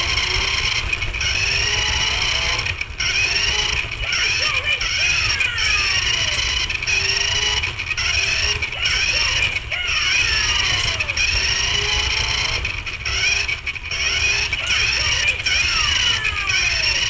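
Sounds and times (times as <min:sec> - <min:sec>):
toy car motor whining: 0:00.0 - 0:17.0
wheels rumbling on floor: 0:00.0 - 0:17.0.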